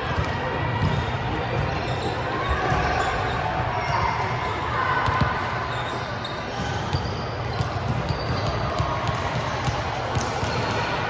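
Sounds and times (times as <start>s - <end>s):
sneakers squeaking on court: 0.1s - 11.0s.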